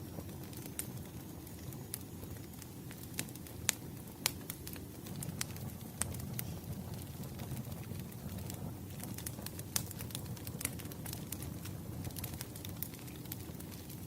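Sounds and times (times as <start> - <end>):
fire crackles and pops: 0.0 - 14.0
fire rumbling: 0.0 - 14.0.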